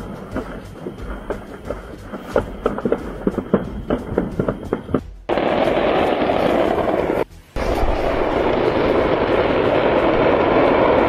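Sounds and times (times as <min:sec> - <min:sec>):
fireworks popping and banging: 0:00.0 - 0:11.0
low rumble: 0:00.0 - 0:11.0.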